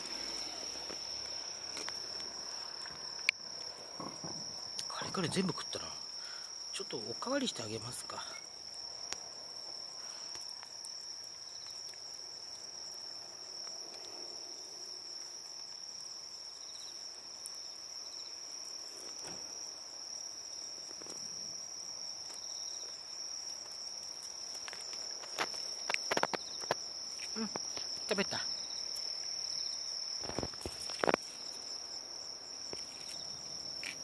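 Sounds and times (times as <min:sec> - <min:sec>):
crickets trilling: 0:00.0 - 0:34.0
insect pulsed chirps: 0:00.0 - 0:34.0.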